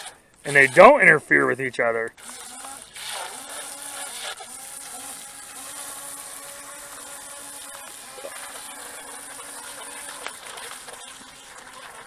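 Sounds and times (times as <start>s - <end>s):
remote-control boat motors whining: 0.0s - 12.0s.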